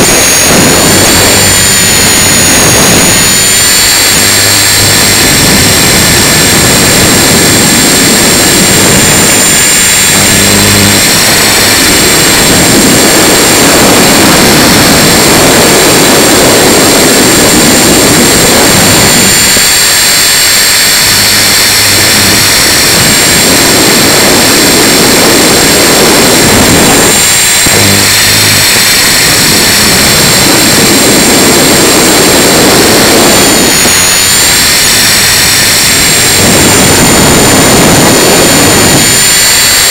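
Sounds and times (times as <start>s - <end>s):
loud rushing noise: 0.0s - 39.9s
rc helicopter motor whine: 0.0s - 39.9s.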